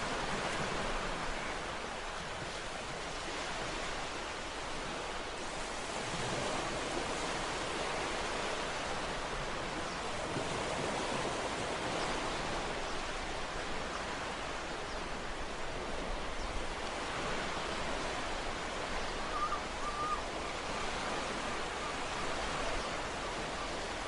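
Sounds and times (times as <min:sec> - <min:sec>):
ocean surf washing: 0:00.0 - 0:24.0.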